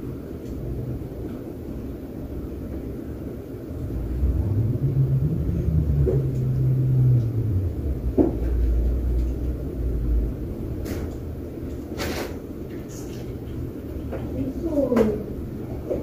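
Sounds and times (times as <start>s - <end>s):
ceiling fan hum and air rumble: 0.0s - 16.0s.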